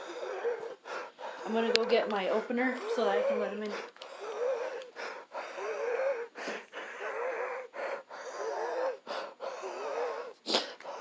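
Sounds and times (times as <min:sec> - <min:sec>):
man wheezing: 0:00.0 - 0:02.0, 0:02.8 - 0:11.0.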